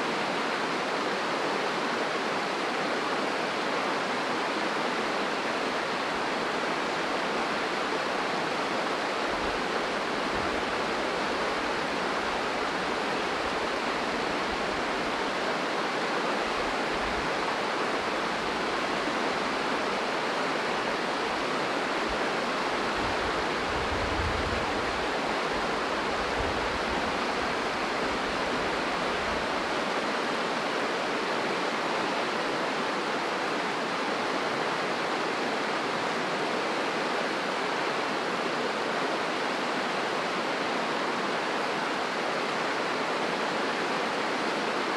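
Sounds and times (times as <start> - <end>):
fast-flowing river water: 0.0 - 44.9.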